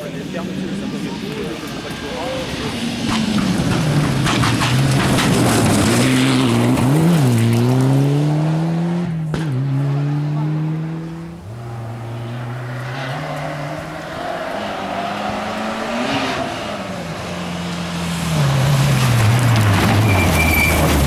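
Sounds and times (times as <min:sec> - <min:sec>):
rally car engine revving: 0:00.0 - 0:21.0
second car engine approaching: 0:00.0 - 0:21.0
gravel noise: 0:00.3 - 0:08.1, 0:11.4 - 0:21.0.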